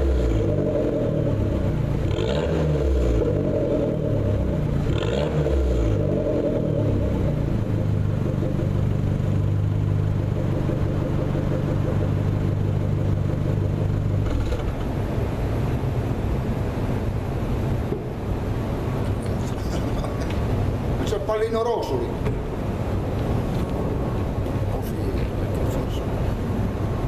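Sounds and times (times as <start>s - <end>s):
car engine idling: 0.0s - 27.0s
car engine throttle blips: 0.0s - 27.0s.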